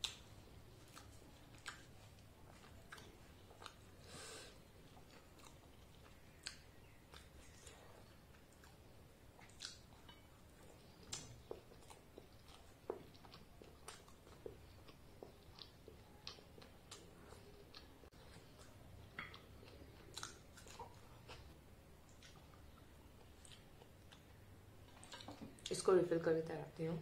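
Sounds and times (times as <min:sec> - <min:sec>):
quiet chewing: 0:00.0 - 0:25.9.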